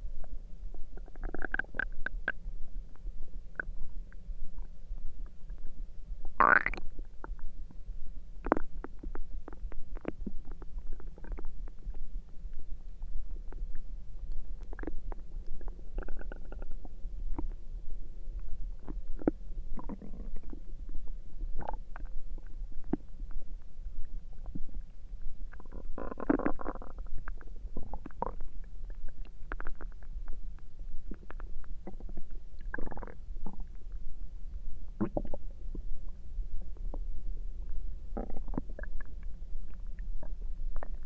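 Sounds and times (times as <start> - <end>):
steady low hum: 0.0 - 41.0
stomach gurgling and rumbling: 0.0 - 41.0.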